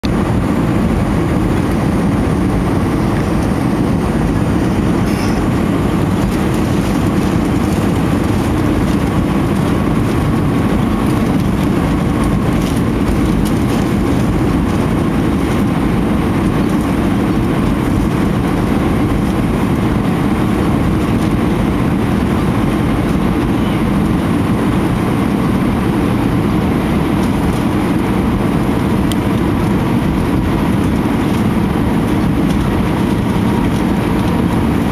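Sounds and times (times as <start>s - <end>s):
aircraft cabin engine roar: 0.0s - 34.9s.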